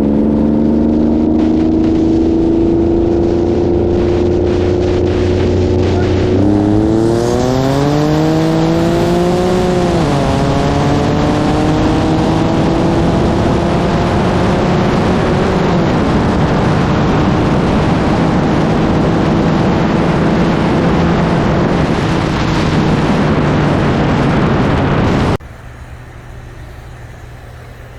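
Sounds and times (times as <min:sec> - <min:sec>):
wind noise: 0:00.0 - 0:25.4
car engine running hard: 0:00.0 - 0:27.9
road noise: 0:00.0 - 0:27.9.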